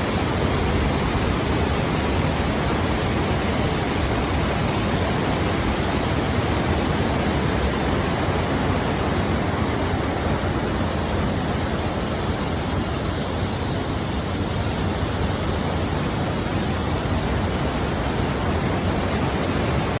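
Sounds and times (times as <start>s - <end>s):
flowing water rushing: 0.0s - 20.0s.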